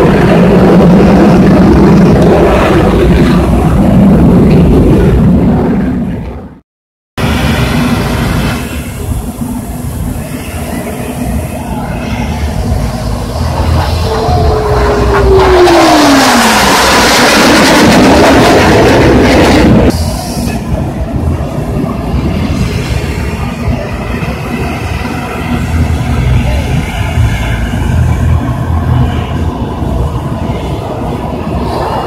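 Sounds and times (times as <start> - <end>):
jet engine roar: 0.0 - 6.6, 7.2 - 32.0.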